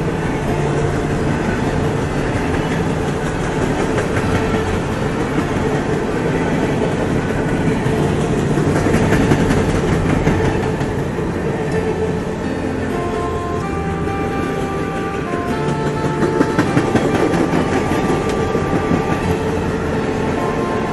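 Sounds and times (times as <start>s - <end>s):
steel wheels running on rails: 0.0s - 20.9s.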